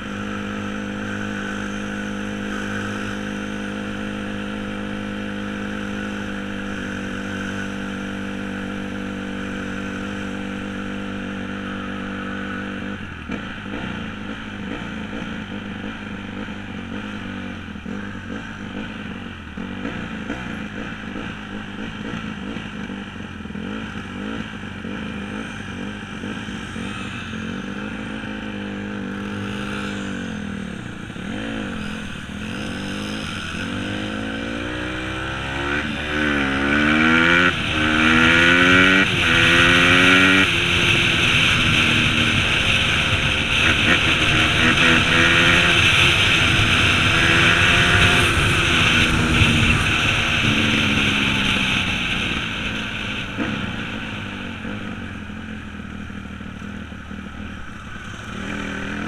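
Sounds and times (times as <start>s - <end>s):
off-road engine accelerating: 0.0s - 59.0s.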